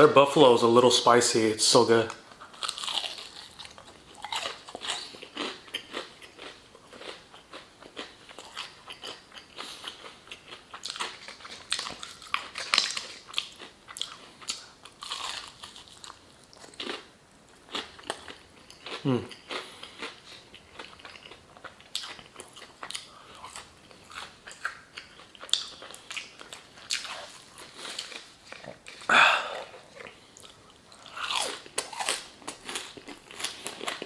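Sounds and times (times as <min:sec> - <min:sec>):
chewing crispy chicken: 0:02.4 - 0:34.0.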